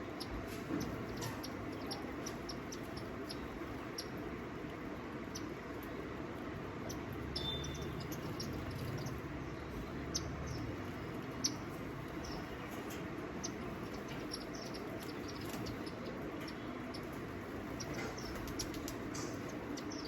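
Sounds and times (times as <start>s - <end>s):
low background hum: 0.0s - 20.0s
small birds chirping: 0.0s - 20.0s.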